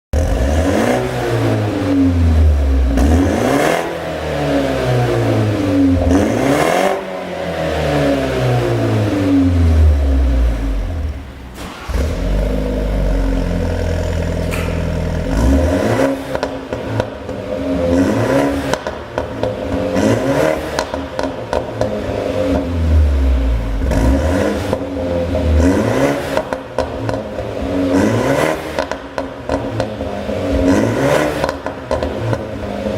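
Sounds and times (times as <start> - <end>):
car engine revving: 0.2 - 32.9.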